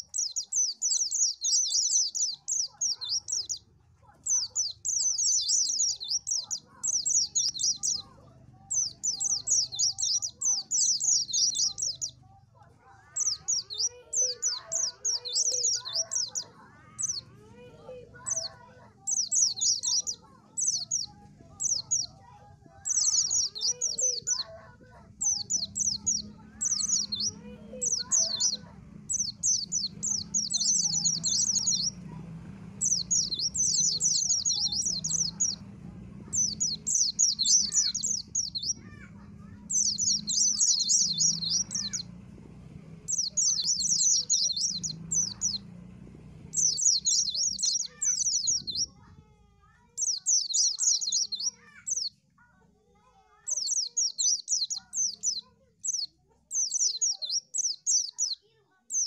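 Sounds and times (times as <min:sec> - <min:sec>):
white-eye twittering song: 0:00.0 - 0:12.2, 0:12.8 - 0:32.1, 0:32.8 - 0:42.2, 0:43.1 - 0:45.7, 0:46.5 - 0:49.0, 0:50.0 - 0:52.1.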